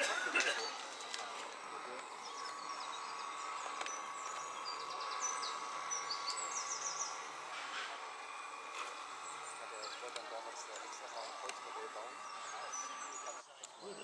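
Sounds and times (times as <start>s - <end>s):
outdoor background noise: 0.0s - 14.0s
songbirds chirping and singing: 0.5s - 14.0s.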